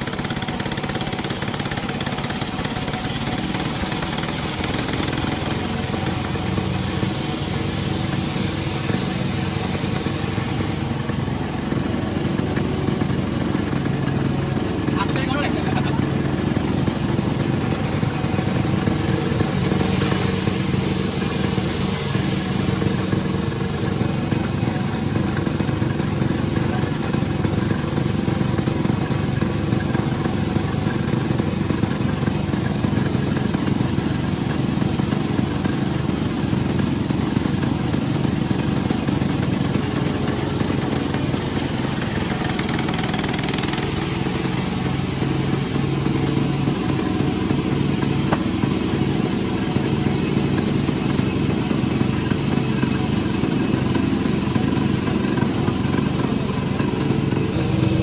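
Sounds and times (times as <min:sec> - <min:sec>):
sawmill engine drone: 0:00.0 - 0:58.0.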